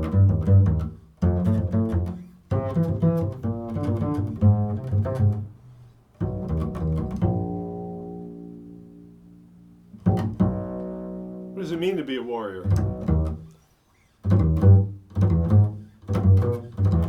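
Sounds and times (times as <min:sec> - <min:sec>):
solo instrumental music: 0:00.0 - 0:13.5, 0:14.2 - 0:17.0.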